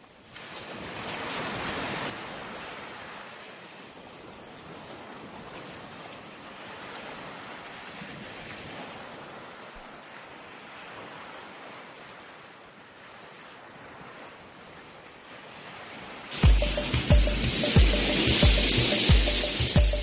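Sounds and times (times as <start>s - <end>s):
wind hiss on microphone: 0.0s - 20.0s.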